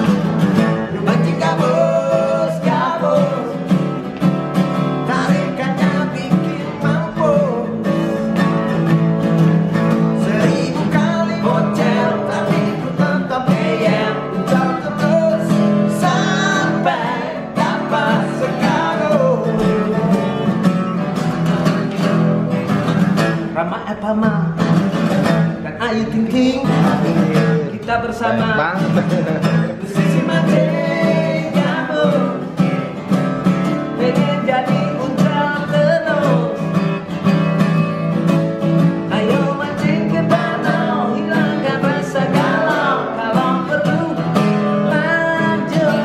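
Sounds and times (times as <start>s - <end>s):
men singing: 0.0s - 4.2s, 4.8s - 8.8s, 9.8s - 21.0s, 25.6s - 33.0s, 33.7s - 37.0s, 39.0s - 46.0s
acoustic guitars strummed: 0.0s - 46.0s.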